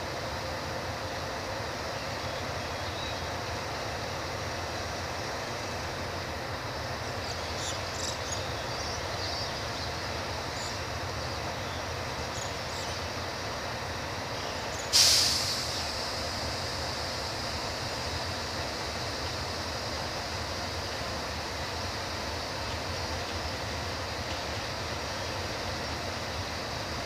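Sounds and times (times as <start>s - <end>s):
diesel locomotive engine rumble: 0.0s - 27.0s
loud hiss: 0.0s - 27.0s.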